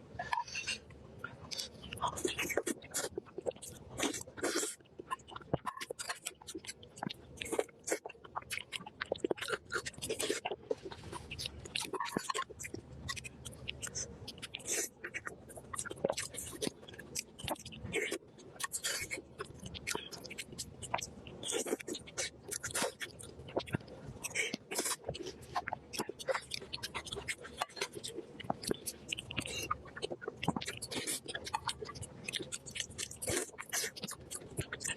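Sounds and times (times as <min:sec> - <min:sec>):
person chewing crunchy food: 0:01.5 - 0:34.9.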